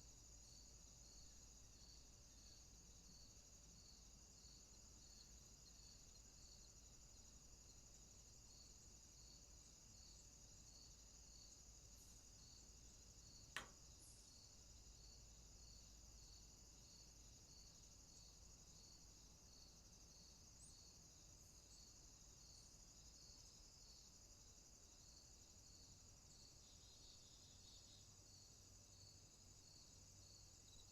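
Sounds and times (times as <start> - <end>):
insect chorus trilling: 0.1 - 30.9.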